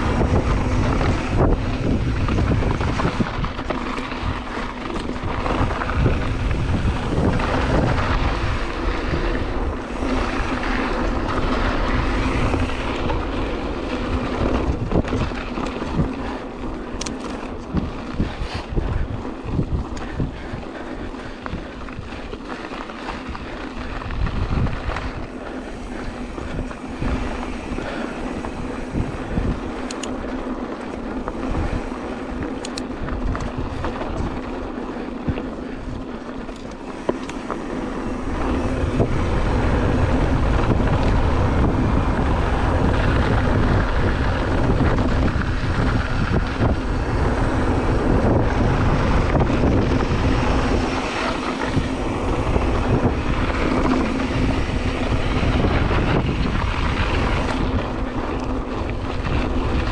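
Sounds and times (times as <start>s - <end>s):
bike clicks and rattles: 0.0s - 59.9s
tyres on dirt: 0.0s - 59.9s
wind buffeting microphone: 0.0s - 59.9s.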